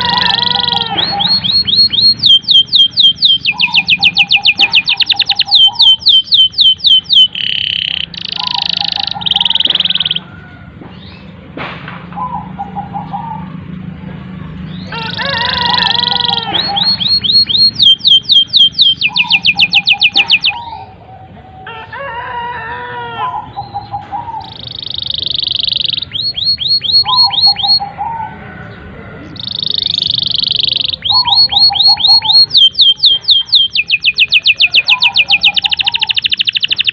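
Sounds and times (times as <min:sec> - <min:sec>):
canary singing trills: 0:00.0 - 0:11.4, 0:12.2 - 0:21.4, 0:23.2 - 0:36.9.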